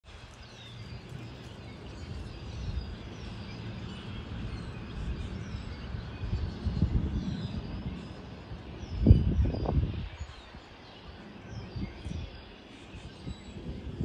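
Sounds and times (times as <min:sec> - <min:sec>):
small birds chirping: 0:00.1 - 0:14.0
steady low rumble: 0:00.1 - 0:14.0.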